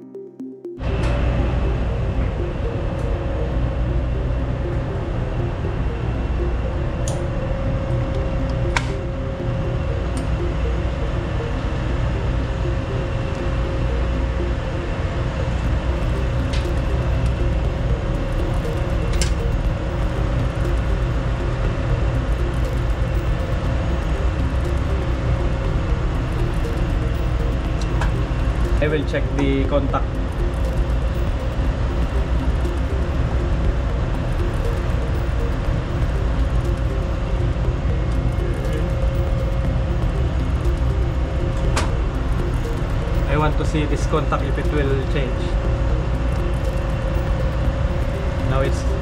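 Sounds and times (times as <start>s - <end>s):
quiet background music: 0.0s - 49.0s
loud machinery drone: 0.8s - 49.0s.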